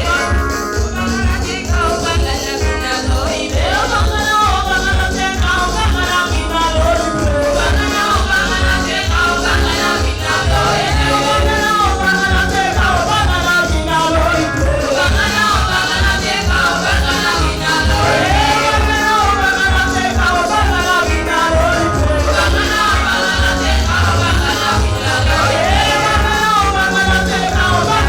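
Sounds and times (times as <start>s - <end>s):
driving bass beat: 0.0s - 28.0s
voices singing: 0.0s - 28.0s.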